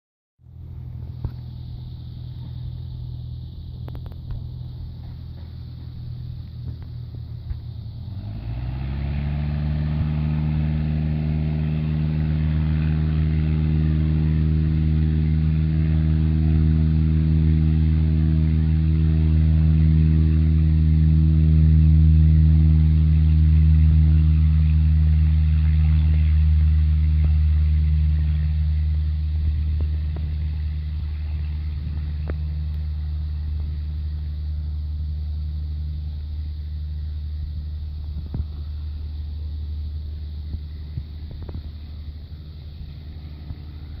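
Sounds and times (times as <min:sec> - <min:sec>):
aircraft engine rumble: 0:00.4 - 0:44.0.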